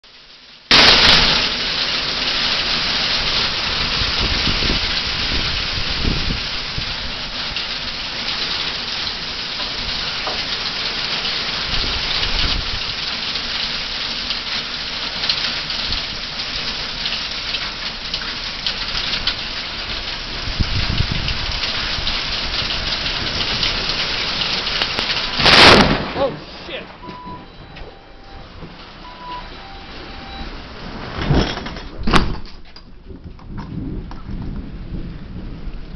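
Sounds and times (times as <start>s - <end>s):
heavy rain pouring: 0.0s - 35.9s
loud lightning crash: 0.7s - 13.9s, 18.6s - 35.8s
thunder rumbling: 0.7s - 35.9s.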